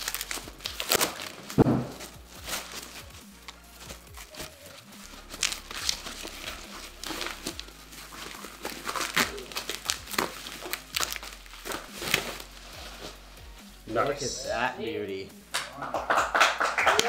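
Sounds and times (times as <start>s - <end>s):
bubble wrap crinkling and crackling: 0.0s - 14.3s.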